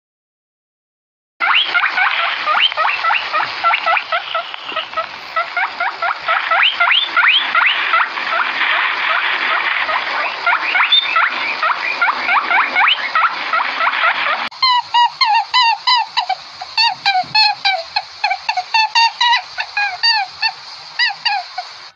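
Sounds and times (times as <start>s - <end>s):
small animals squeaking: 1.4s - 21.9s.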